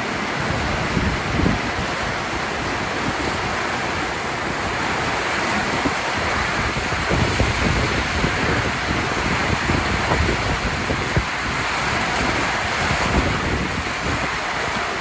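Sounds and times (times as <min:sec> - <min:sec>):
heavy rain pouring: 0:00.0 - 0:15.0
wind gusting over microphone: 0:00.0 - 0:15.0.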